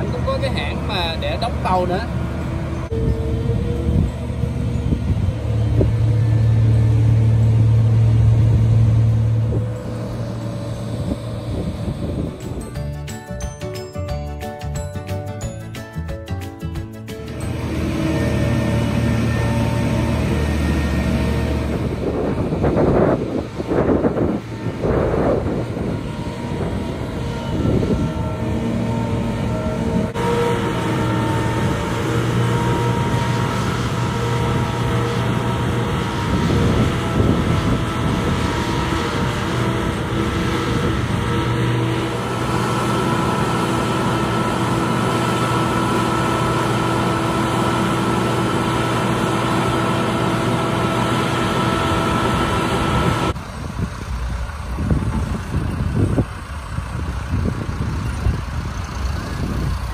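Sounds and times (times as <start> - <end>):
boat hoist engine droning: 0.0 - 59.9.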